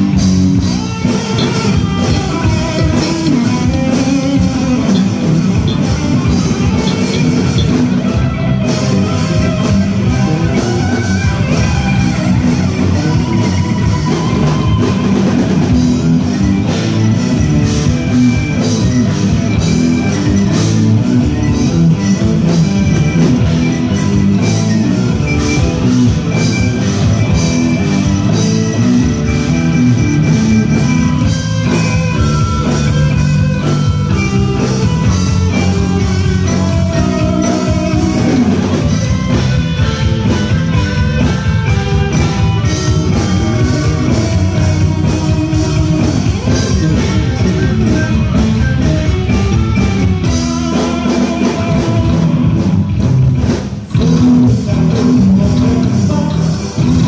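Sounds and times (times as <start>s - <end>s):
bass guitar: 0.0s - 57.0s
distorted electric guitar: 0.0s - 57.0s
drum kit: 0.0s - 57.0s.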